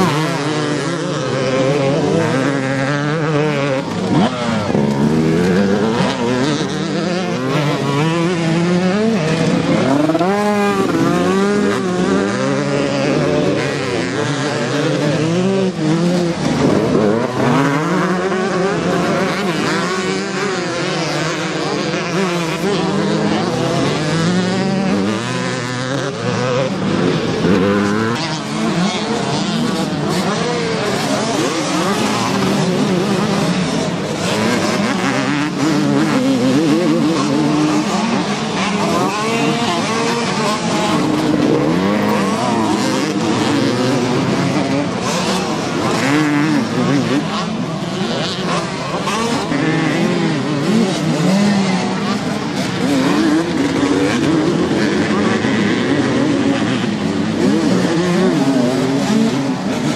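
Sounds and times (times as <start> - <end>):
motocross bikes revving past: 0.0 - 59.9.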